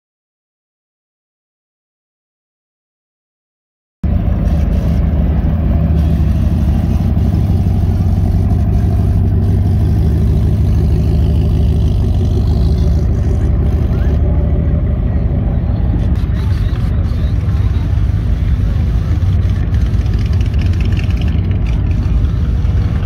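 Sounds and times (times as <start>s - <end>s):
deep car engine running: 4.0s - 23.0s.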